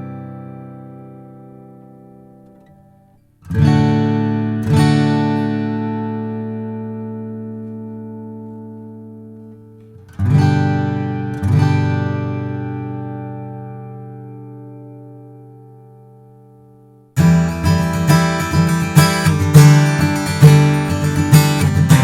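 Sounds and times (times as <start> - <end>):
acoustic guitar chords ringing: 0.0 - 22.0.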